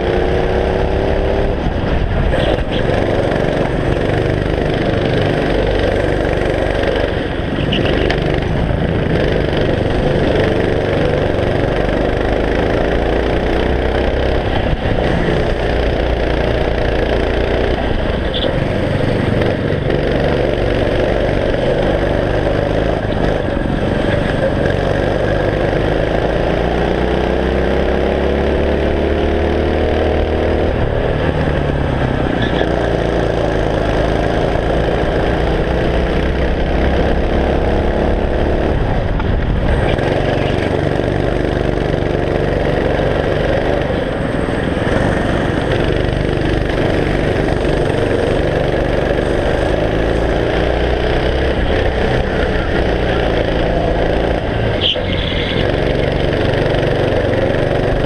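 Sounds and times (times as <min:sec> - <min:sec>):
go-kart engine: 0:00.0 - 0:58.0.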